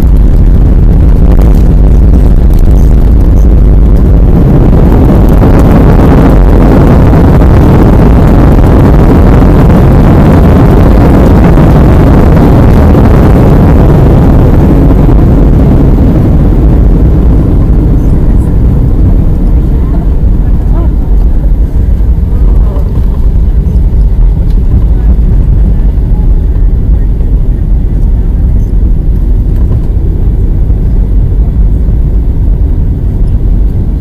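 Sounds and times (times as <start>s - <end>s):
jet engines rumbling from cabin: 0.0s - 34.0s.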